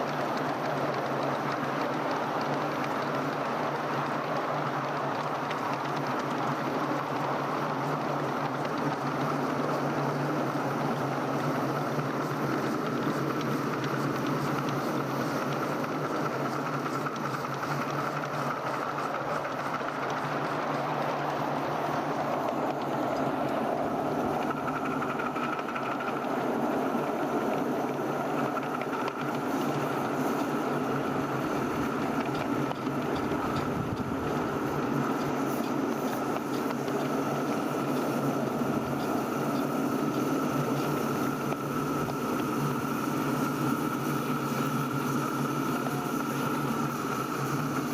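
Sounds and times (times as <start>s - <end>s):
miniature train running on track: 0.0s - 47.9s.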